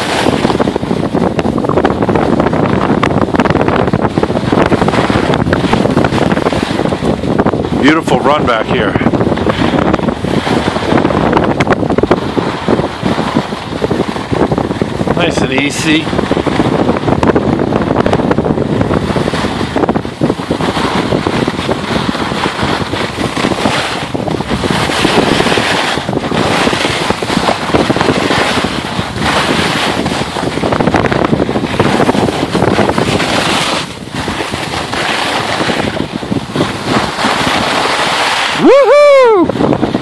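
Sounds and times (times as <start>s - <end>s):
skis hissing on snow: 0.0s - 11.4s, 12.0s - 18.0s, 18.8s - 40.0s
wind rushing over microphone: 0.0s - 40.0s.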